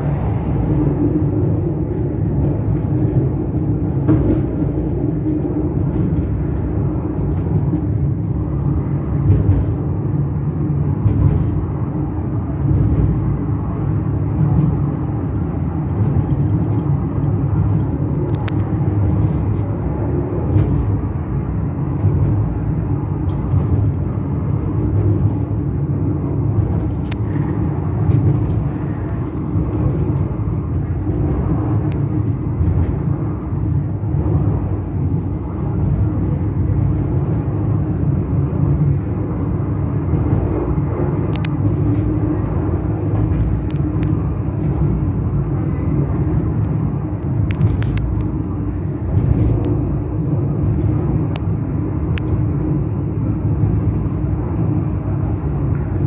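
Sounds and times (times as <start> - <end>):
funicular car rumbling on rails: 0.0 - 56.0.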